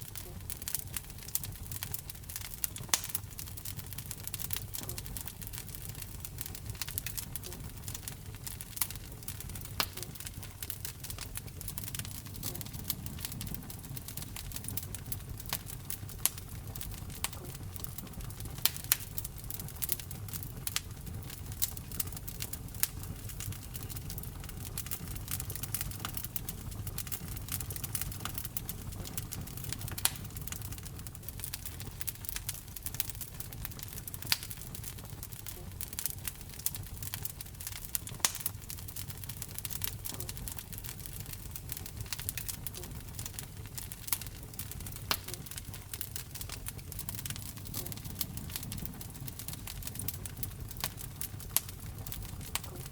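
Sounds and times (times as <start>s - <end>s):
fire popping and snapping: 0.0s - 52.9s
low rumble of flames: 0.0s - 52.9s
wood fire crackling: 0.0s - 52.9s.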